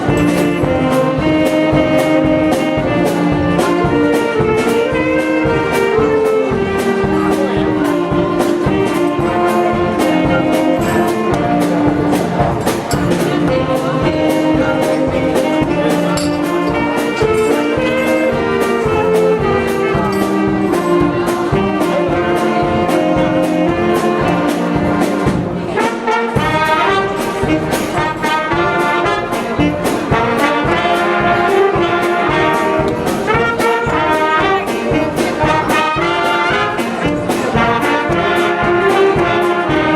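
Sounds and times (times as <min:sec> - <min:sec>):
brass band playing: 0:00.0 - 0:39.9
drum beat: 0:00.0 - 0:39.9.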